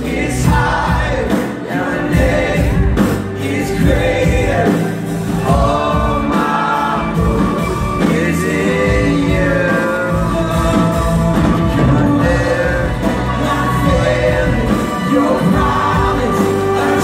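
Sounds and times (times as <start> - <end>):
guitar: 0.0 - 17.0
keyboard: 0.0 - 17.0
steady bass: 0.0 - 17.0.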